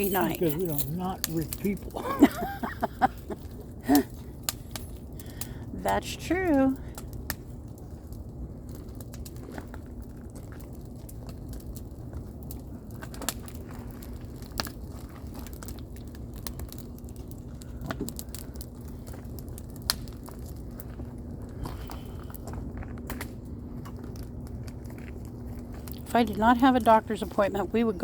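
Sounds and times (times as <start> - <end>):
campfire crackling and popping: 0.0 - 28.0
steady low hum: 0.0 - 28.0.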